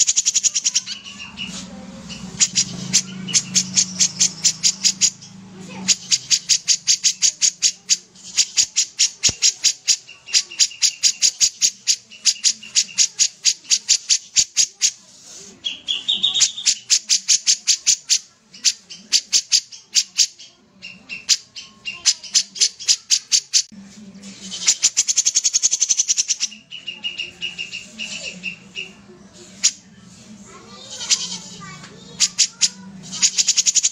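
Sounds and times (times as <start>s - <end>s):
bulbul singing rapid sharp notes: 0.0s - 33.9s.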